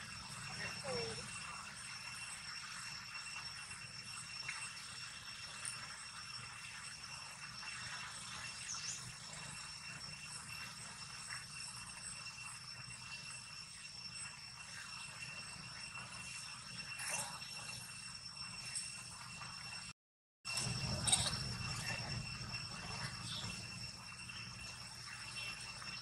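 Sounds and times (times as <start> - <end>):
faint high-pitched whine: 0.0 - 19.9, 20.5 - 26.0.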